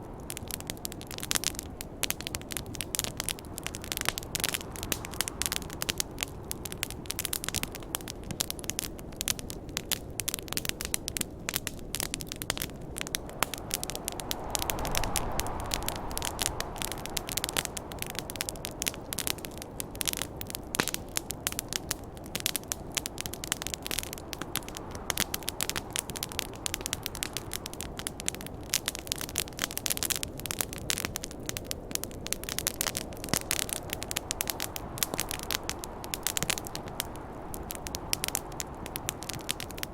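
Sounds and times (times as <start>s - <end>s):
campfire crackling: 0.0s - 39.9s
wind gusting: 0.0s - 39.9s.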